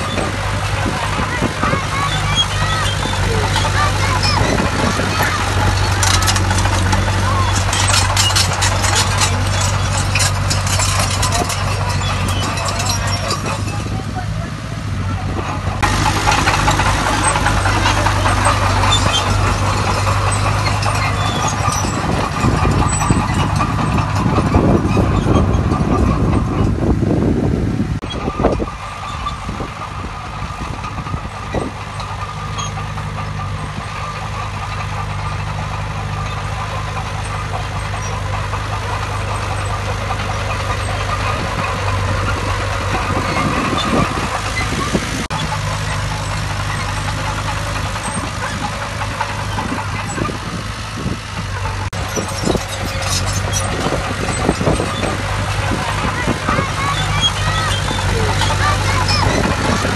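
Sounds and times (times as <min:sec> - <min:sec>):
metallic clanks: 0:00.0 - 0:14.5, 0:15.2 - 0:27.0, 0:28.0 - 0:59.9
diesel engine running: 0:00.0 - 0:59.9.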